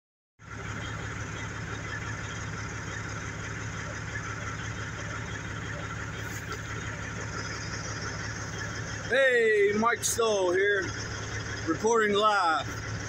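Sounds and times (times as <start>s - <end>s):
vehicle engine idling: 0.4s - 13.0s.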